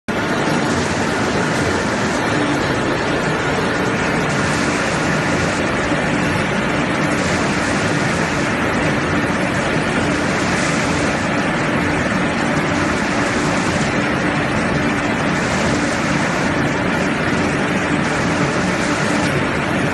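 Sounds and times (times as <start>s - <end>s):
loud machinery din: 0.1s - 19.9s.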